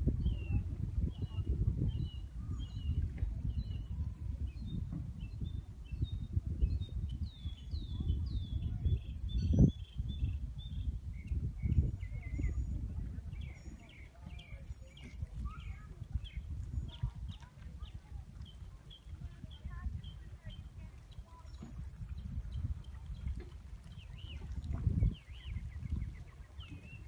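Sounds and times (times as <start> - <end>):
birds chirping: 0.2 - 27.0.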